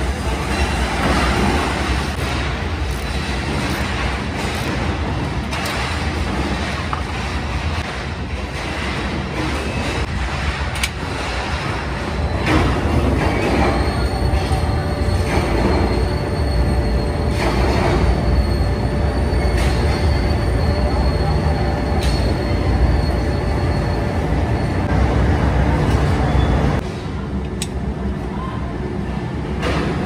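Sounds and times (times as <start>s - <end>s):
factory machinery drone: 0.0s - 30.0s.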